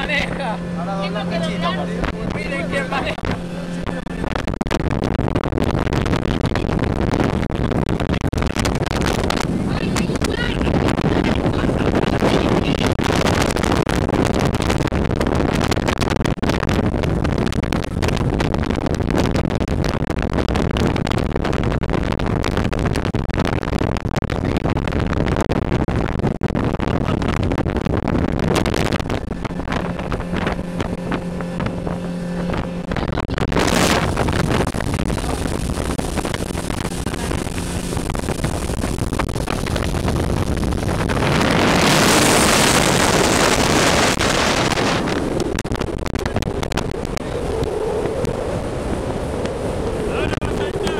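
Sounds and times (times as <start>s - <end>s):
motorboat engine: 0.0s - 50.9s
rushing wind and water: 0.0s - 50.9s
wind buffeting microphone: 0.0s - 50.9s.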